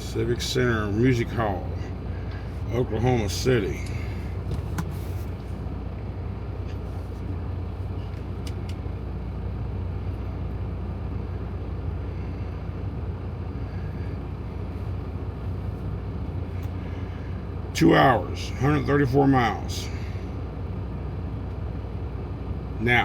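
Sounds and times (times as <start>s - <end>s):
diesel truck engine rumble: 0.0s - 23.0s.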